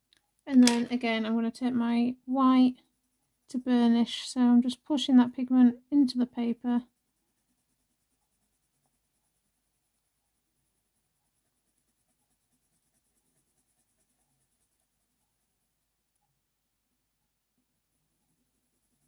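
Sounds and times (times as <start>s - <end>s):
pencil scratching on paper: 0.6s - 16.2s, 17.8s - 19.0s.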